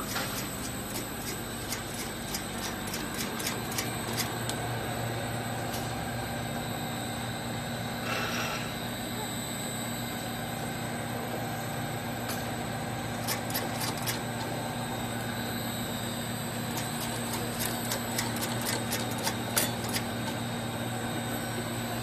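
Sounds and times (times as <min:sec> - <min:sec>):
capping machine humming: 0:00.0 - 0:22.0.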